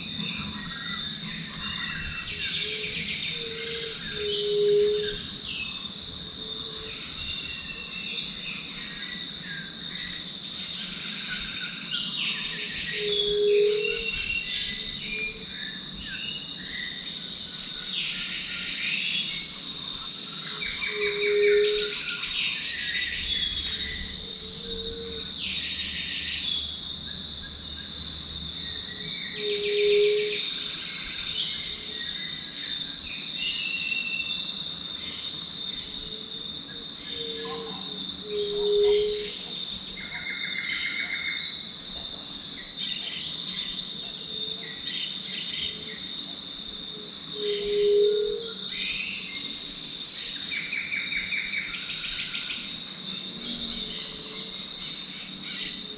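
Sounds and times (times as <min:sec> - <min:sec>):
birds chirping and trilling: 0:00.0 - 0:55.9
high-pitched insect chorus: 0:00.0 - 0:55.9.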